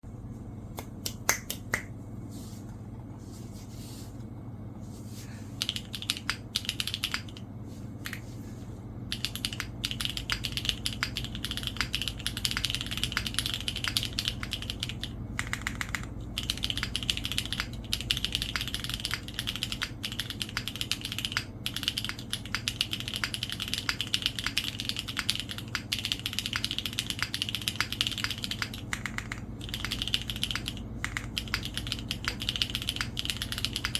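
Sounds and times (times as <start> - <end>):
mechanical keyboard typing: 5.6 - 8.2, 9.1 - 33.9.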